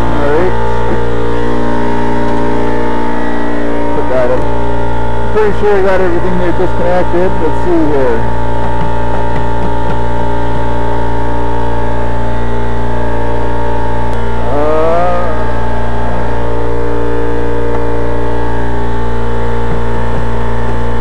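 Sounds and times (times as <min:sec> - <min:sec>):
loud steady hum: 0:00.0 - 0:21.0.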